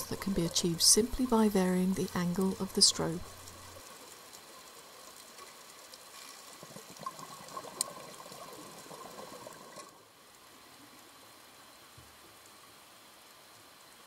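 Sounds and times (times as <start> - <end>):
crackling underwater hiss: 0.0 - 14.0.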